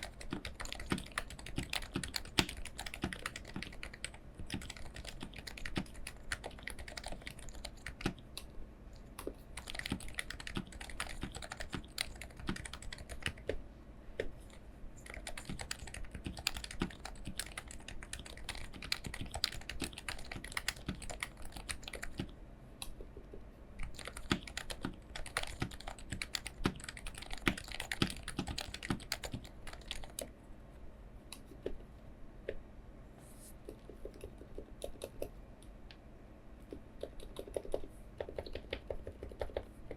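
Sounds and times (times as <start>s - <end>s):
keyboard typing: 0.0s - 8.3s, 9.0s - 13.6s, 14.2s - 30.3s, 33.7s - 35.3s, 36.7s - 39.9s.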